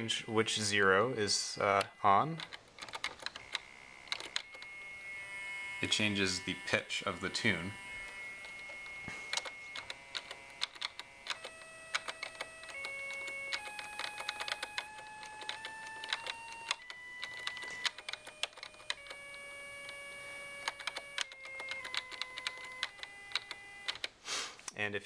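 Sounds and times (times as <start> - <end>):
electronic tone changing pitch: 0.0 - 2.4, 3.4 - 23.8
keyboard keys clicking: 0.0 - 4.8, 5.8 - 24.2.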